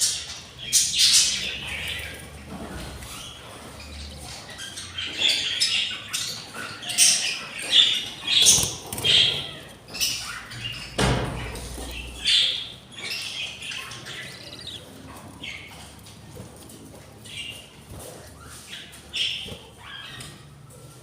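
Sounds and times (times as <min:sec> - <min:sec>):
budgerigars chirping and squawking: 0:00.0 - 0:20.6.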